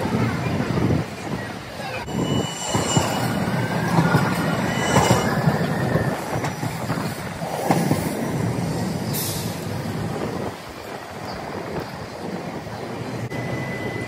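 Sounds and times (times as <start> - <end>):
streetcar wheels and motors rumbling: 0.0 - 14.0.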